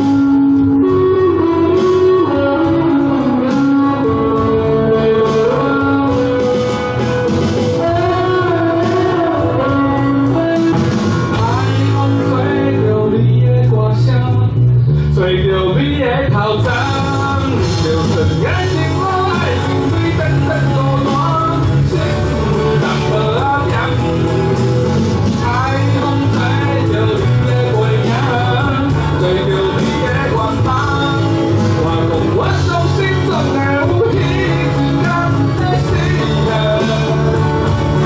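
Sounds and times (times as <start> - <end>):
electric bass: 0.0 - 38.0
electric guitars: 0.0 - 38.0
electronic drum kit: 0.0 - 38.0
man singing lead: 0.0 - 38.0.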